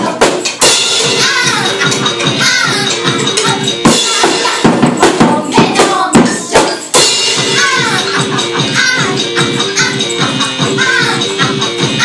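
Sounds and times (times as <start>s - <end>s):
drum kit and cymbals: 0.0s - 12.0s
live band music: 0.0s - 12.0s
women singing: 1.2s - 6.9s, 7.5s - 12.0s.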